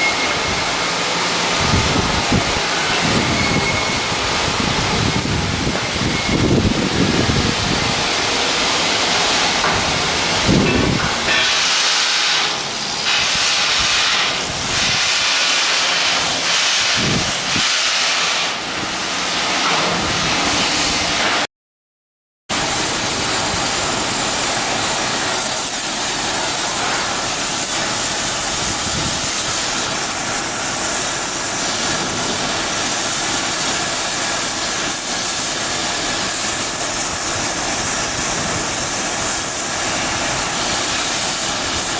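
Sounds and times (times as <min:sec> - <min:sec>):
loud steady hissing: 0:00.0 - 0:21.4, 0:22.5 - 0:41.9.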